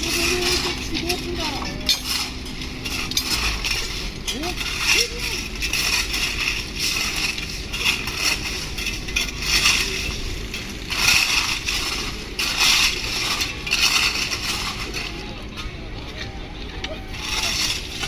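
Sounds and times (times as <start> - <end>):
crunching scraping bursts: 0.0 - 15.6
low machinery rumble: 0.0 - 18.0.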